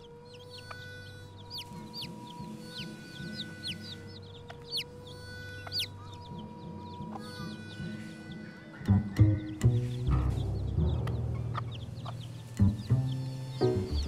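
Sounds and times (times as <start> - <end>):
chicks peeping: 0.0 - 14.0
hen clucking: 0.3 - 14.0.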